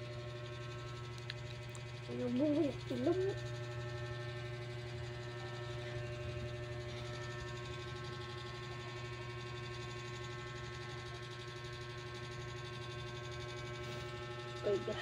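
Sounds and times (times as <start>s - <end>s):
low hum with higher tones: 0.0s - 15.0s.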